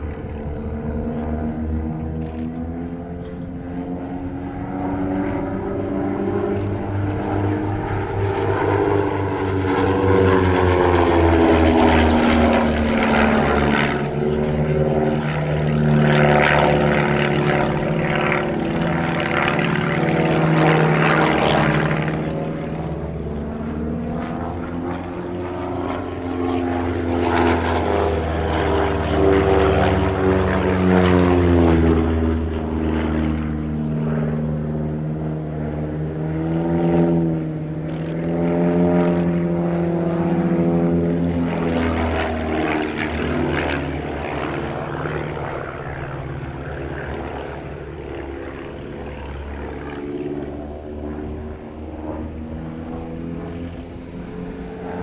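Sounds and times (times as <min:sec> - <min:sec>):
propeller plane engines droning: 0:00.0 - 0:55.0.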